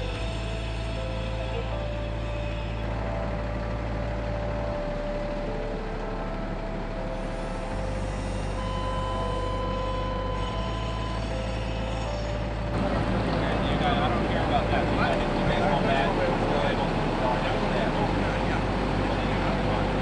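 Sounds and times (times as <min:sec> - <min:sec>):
engines idling: 0:00.0 - 0:20.0
faint whining tones: 0:00.0 - 0:20.0.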